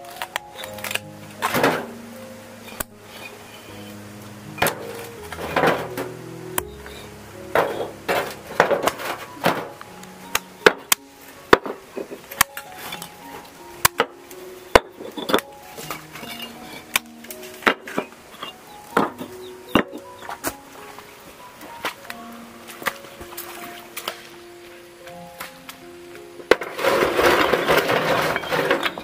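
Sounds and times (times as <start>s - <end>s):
background music: 0.0s - 29.0s.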